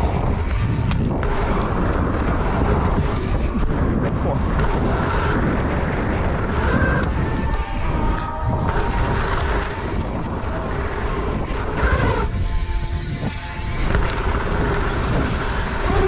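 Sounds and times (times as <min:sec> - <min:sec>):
bike tyres rolling on dirt: 0:00.0 - 0:16.0
wind rushing over microphone: 0:00.0 - 0:16.0.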